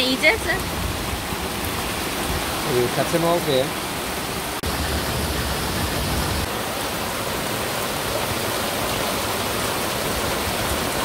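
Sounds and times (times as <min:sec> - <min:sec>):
heavy rain pouring onto water: 0:00.0 - 0:11.0.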